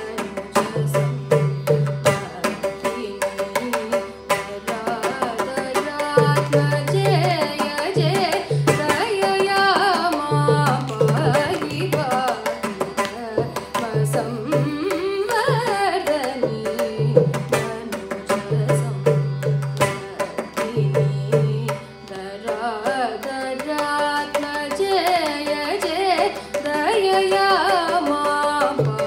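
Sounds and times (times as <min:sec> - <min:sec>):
woman singing with ornaments: 0:00.0 - 0:29.0.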